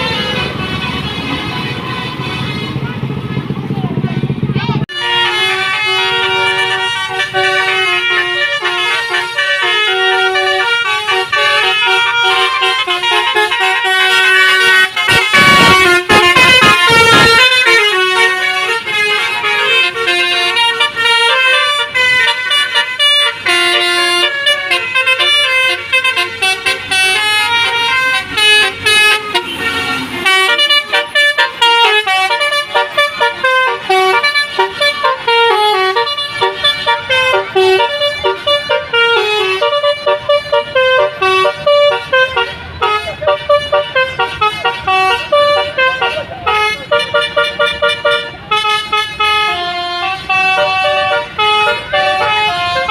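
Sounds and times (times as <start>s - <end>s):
musical air horns playing tune: 0.0s - 2.9s, 4.9s - 52.9s.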